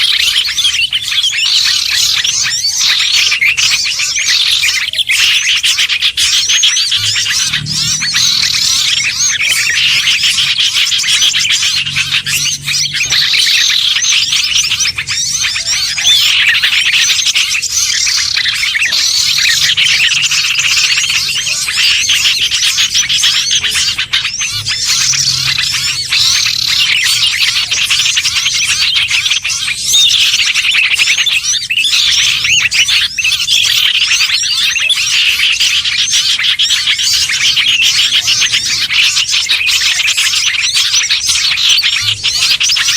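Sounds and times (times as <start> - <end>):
songbirds chirping and twittering: 0.0 - 42.9.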